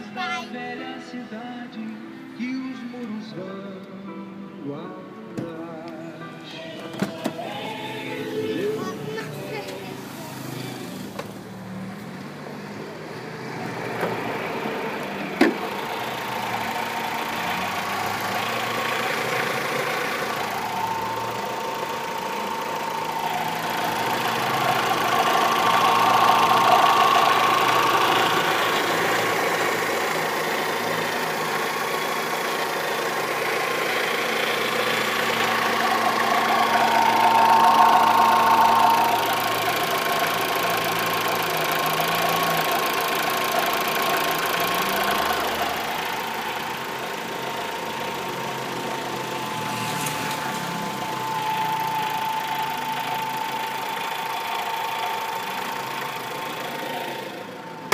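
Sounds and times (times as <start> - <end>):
car engine running: 7.1 - 57.9.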